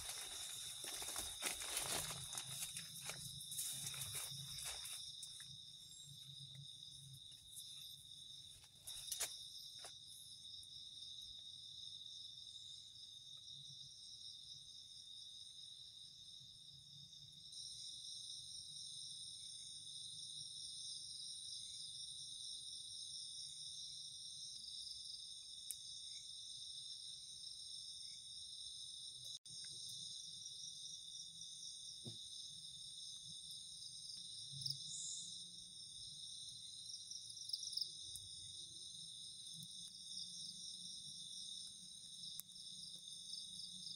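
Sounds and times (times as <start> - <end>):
crickets trilling: 0.0 - 43.9.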